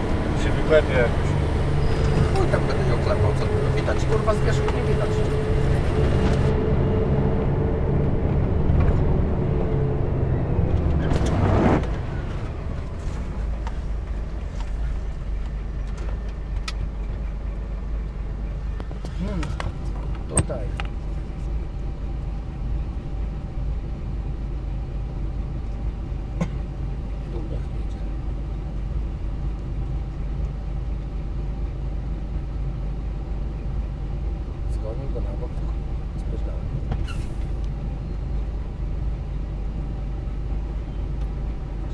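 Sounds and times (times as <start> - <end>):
truck diesel engine rumbling: 0.0 - 41.9.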